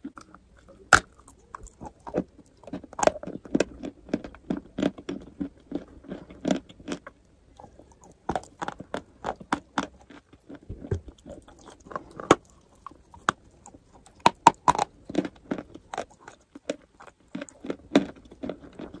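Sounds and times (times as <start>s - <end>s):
person chewing chalk: 0.0s - 19.0s.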